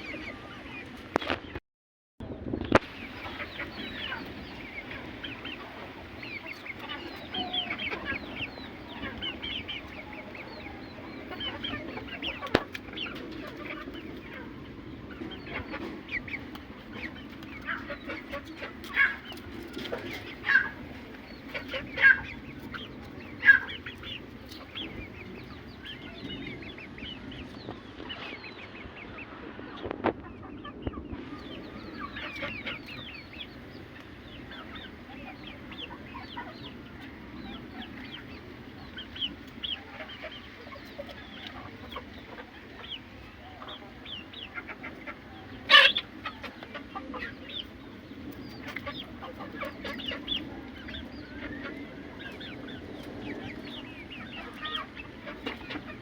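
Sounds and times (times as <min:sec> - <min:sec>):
chickens clucking and calling: 0:00.0 - 0:01.6, 0:02.6 - 0:56.0.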